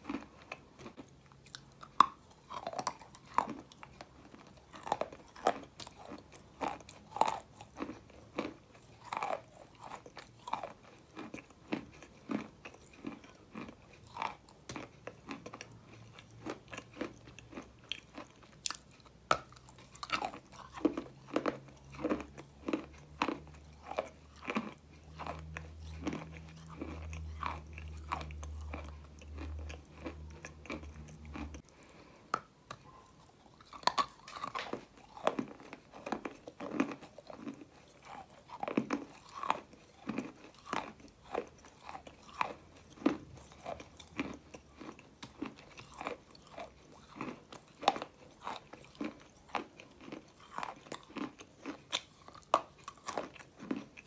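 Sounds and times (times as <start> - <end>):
biting and chewing dry clay: 0.0 - 54.0.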